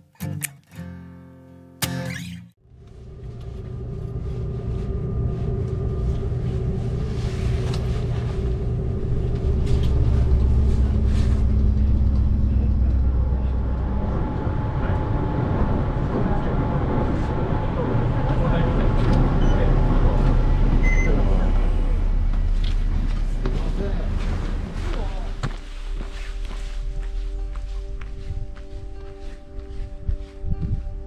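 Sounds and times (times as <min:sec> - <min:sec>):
train cabin rumble: 0:03.0 - 0:28.6.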